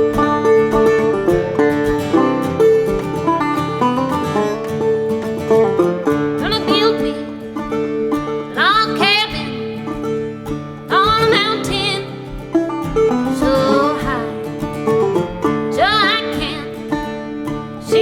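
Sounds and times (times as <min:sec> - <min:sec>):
acoustic string band playing: 0:00.0 - 0:18.0
banjo picking: 0:00.0 - 0:18.0.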